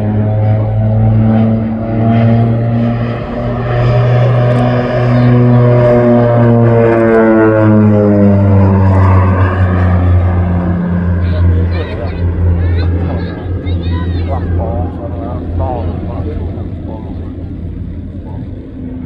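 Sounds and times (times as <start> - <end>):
turboprop aircraft flying past: 0.0 - 19.0.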